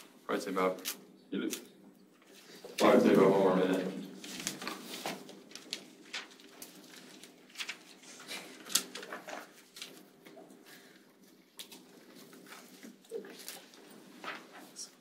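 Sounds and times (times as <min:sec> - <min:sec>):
pens and paper rustling: 0:00.6 - 0:15.0.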